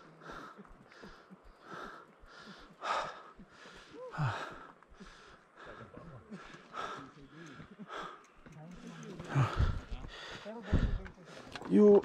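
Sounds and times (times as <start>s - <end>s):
person breathing hard: 0.0s - 11.6s.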